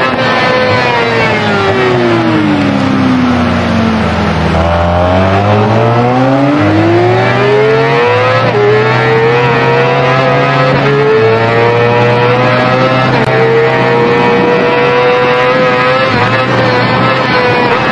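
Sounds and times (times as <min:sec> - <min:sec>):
motorcycle engine accelerating: 0:00.0 - 0:17.9.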